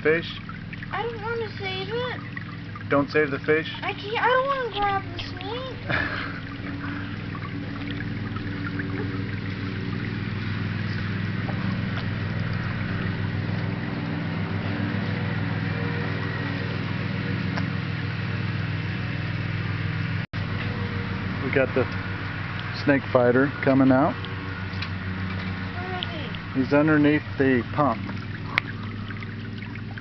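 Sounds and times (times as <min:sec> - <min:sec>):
low mechanical hum: 0:00.0 - 0:30.0
water trickling and gurgling: 0:00.0 - 0:30.0.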